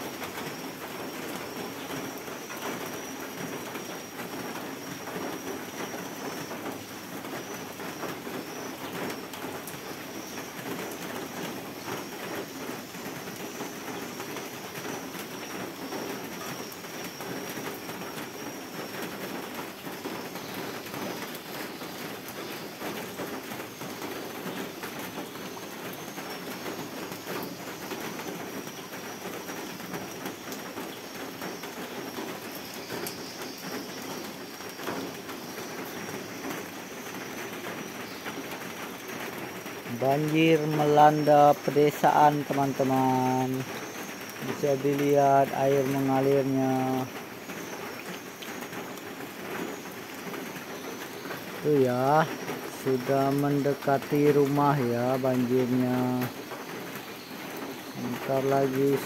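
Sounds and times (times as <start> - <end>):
rain on leaves and wooden deck: 0.0 - 59.0.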